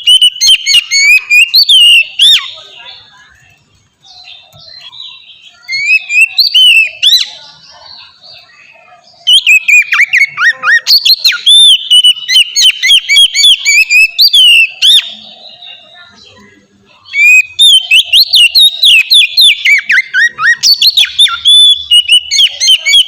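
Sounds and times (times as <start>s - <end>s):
songbird singing whistles: 0.0s - 3.2s, 4.0s - 23.0s.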